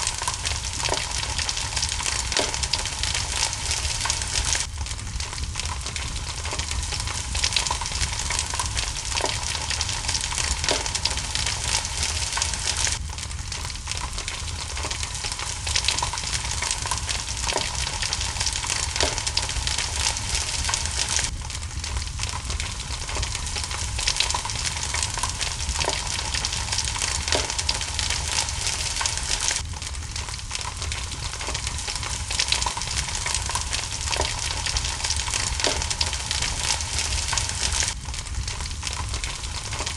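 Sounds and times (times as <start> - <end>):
rain hissing: 0.0 - 39.9
wood fire crackling and popping: 0.0 - 39.9.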